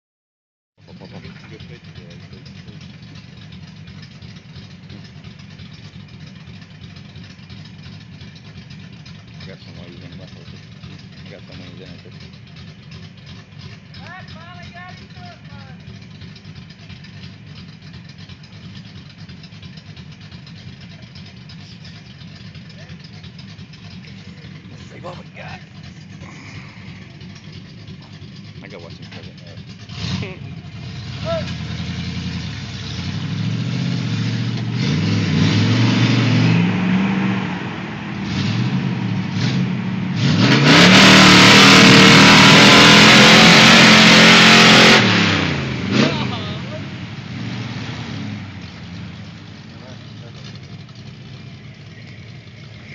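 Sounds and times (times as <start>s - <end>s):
truck engine running: 0.8s - 52.9s.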